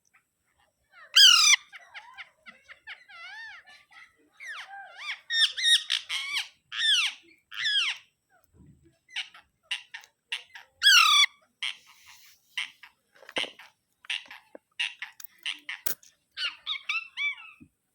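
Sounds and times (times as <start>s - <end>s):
parakeet squawking: 1.0s - 3.8s, 4.4s - 8.0s, 9.1s - 15.8s, 16.4s - 17.6s.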